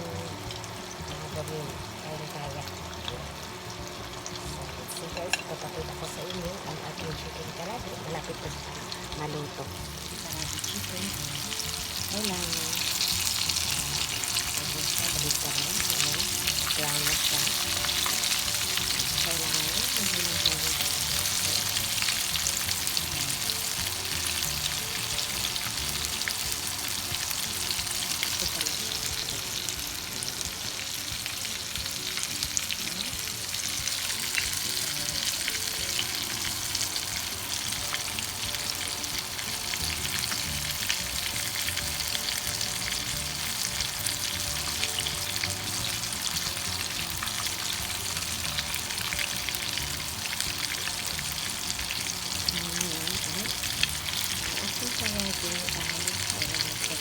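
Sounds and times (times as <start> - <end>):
chicken frying in hot oil: 0.0 - 57.0.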